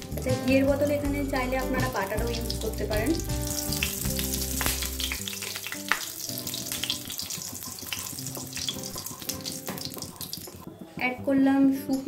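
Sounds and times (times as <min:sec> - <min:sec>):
oil and ghee sizzling: 0:00.0 - 0:10.9.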